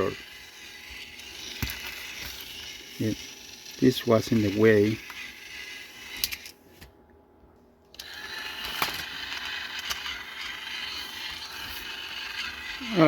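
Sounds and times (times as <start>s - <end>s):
toy train motor whirring: 0.0s - 6.6s, 7.9s - 13.0s.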